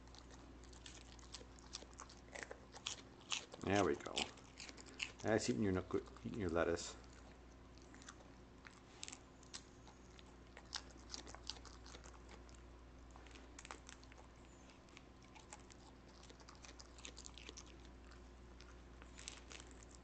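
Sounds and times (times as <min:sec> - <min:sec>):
dog chewing lettuce: 0:00.0 - 0:20.0.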